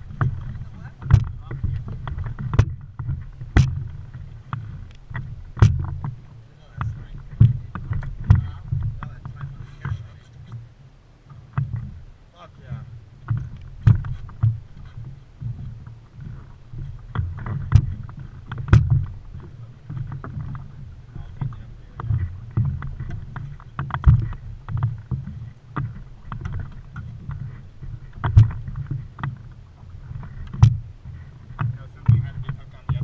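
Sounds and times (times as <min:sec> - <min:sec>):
knocks and thumps on boat hull: 0:00.0 - 0:33.0
water slapping against boat hull: 0:00.0 - 0:33.0.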